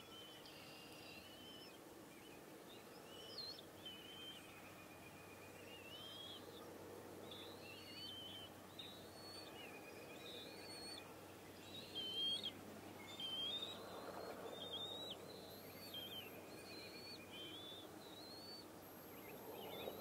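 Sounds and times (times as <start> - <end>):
bird whistling song: 0.0 - 2.4, 3.0 - 6.4, 7.3 - 20.0
outdoor background noise: 0.0 - 20.0.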